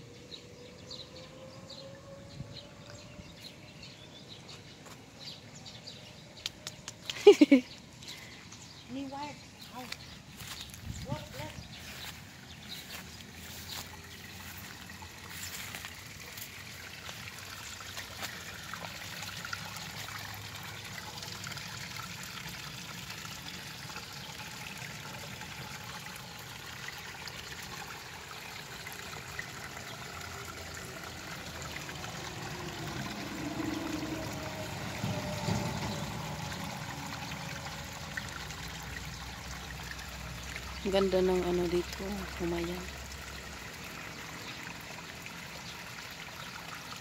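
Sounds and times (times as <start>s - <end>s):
trickle of running water: 2.6s - 47.0s.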